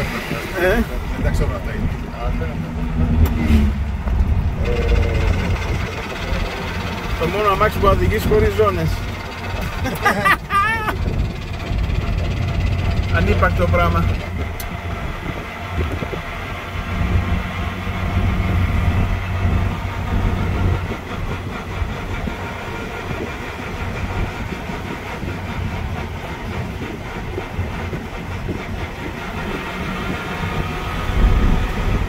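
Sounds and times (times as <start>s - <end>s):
car body rattles: 0.0s - 32.0s
car engine running: 0.0s - 32.0s
road noise: 0.0s - 32.0s.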